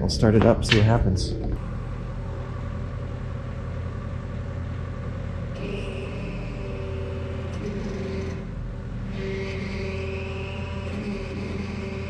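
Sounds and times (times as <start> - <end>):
high whine: 0.0 - 12.0.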